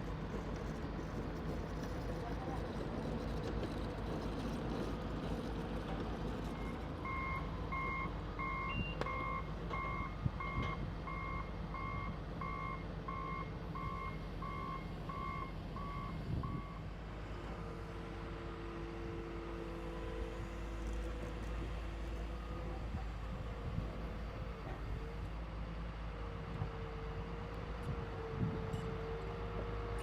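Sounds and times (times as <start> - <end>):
low rumble of equipment: 0.0 - 30.0.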